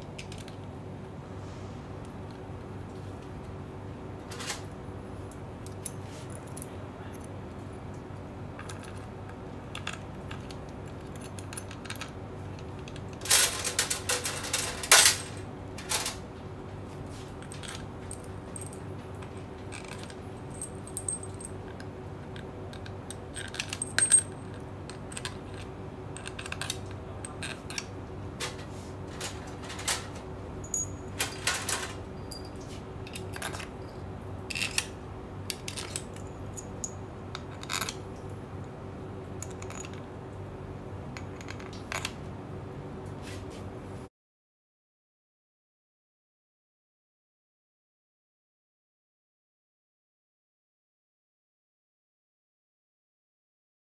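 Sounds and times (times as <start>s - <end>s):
steady low hum: 0.0s - 44.1s.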